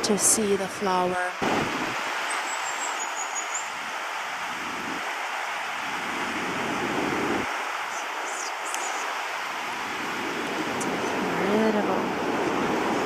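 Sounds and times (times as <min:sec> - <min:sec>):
ocean surf: 0:00.0 - 0:13.0.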